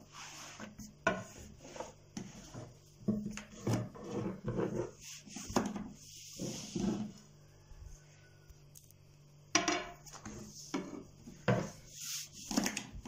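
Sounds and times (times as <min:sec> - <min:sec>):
rolling pin rolling over dough: 0:00.0 - 0:08.4, 0:09.6 - 0:13.0.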